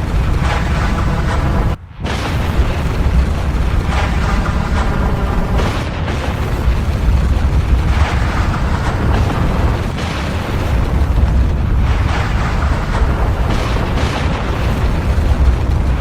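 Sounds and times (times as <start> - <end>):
volcanic eruption bursts: 0.0 - 16.0
volcano deep rumble: 0.0 - 16.0.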